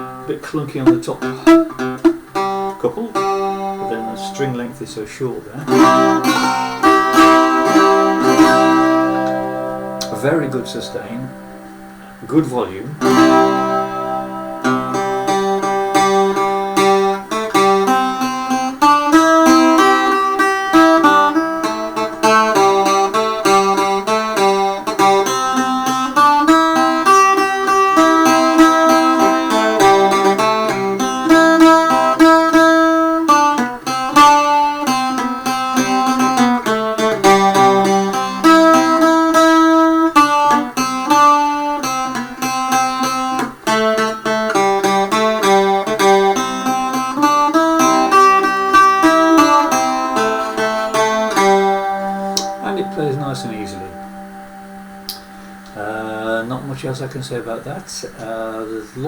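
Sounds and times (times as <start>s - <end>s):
plucked cittern notes and chords: 0.0s - 56.4s.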